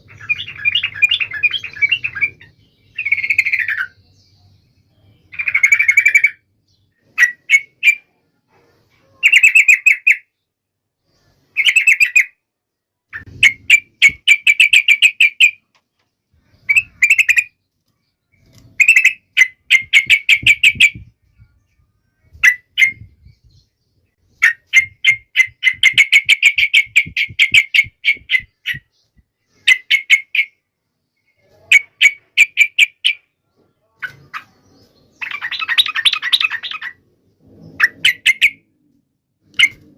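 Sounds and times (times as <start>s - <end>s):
bulbul singing: 0.0s - 8.2s, 13.1s - 38.7s.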